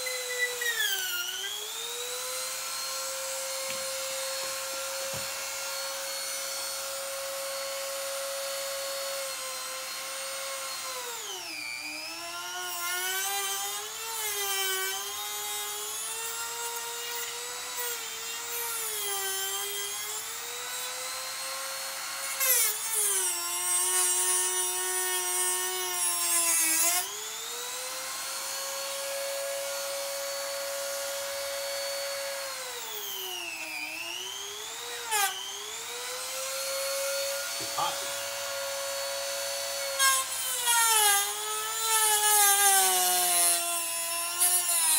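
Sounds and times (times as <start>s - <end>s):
rotary tool whining: 0.0s - 44.9s.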